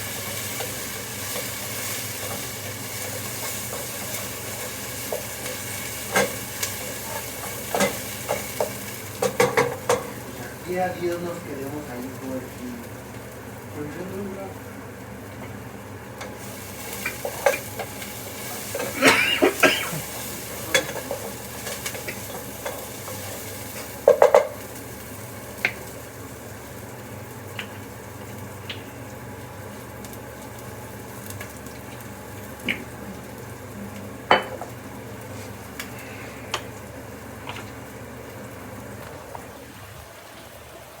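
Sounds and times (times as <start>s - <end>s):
food sizzling in a frying pan: 0.0s - 41.0s.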